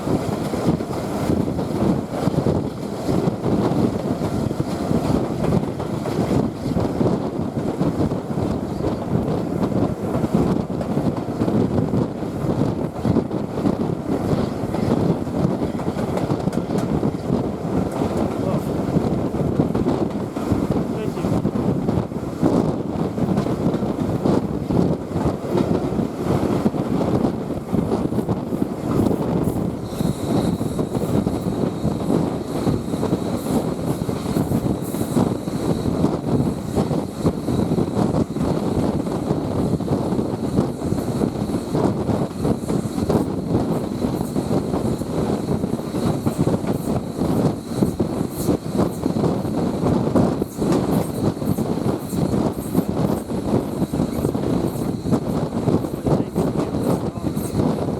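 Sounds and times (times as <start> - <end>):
wheels rumbling on rail: 0.0 - 57.9.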